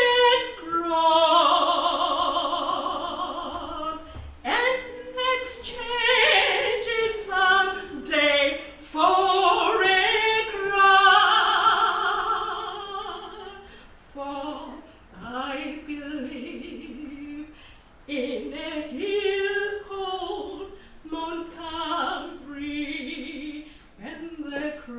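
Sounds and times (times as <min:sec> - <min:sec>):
woman singing: 0:00.0 - 0:24.9.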